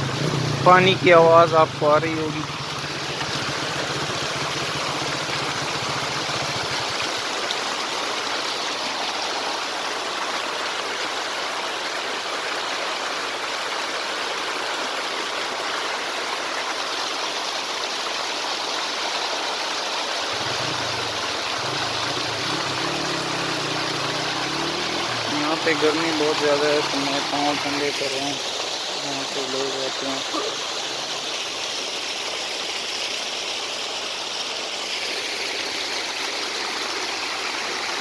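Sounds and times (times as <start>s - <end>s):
spring water splashing: 0.0s - 38.0s.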